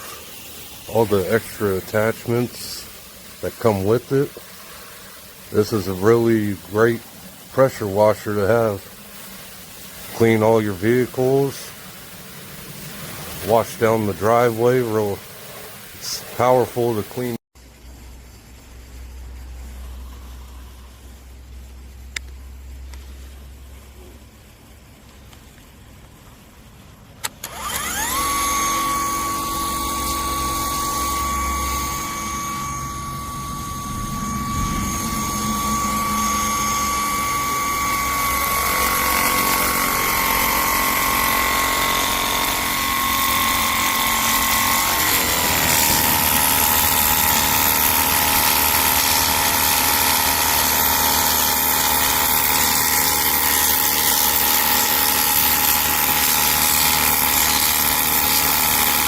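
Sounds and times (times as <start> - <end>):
pressure washer motor whine: 0.0 - 17.4, 27.2 - 59.0.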